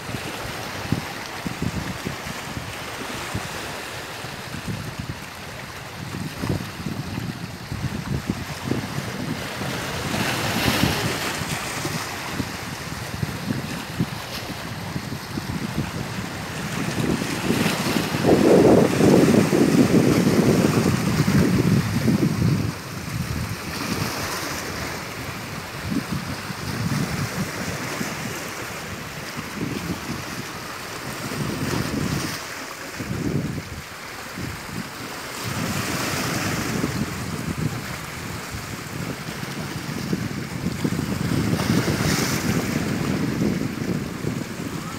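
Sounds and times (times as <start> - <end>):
sea waves breaking: 0.0 - 44.9
wind gusts on microphone: 0.0 - 44.9.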